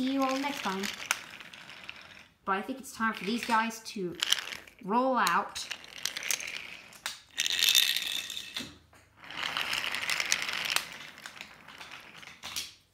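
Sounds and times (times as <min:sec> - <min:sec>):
toy train rattling on wooden track: 0:00.0 - 0:08.6, 0:09.2 - 0:12.7.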